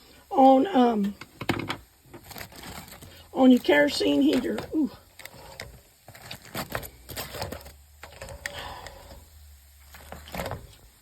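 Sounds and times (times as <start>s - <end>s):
handling clicks and rustling: 1.0s - 8.9s, 9.8s - 10.9s.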